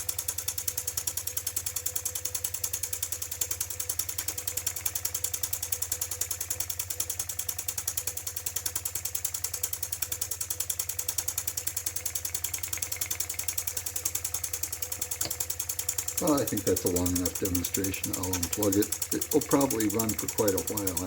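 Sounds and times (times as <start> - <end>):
toy steam engine chuffing: 0.0 - 21.0.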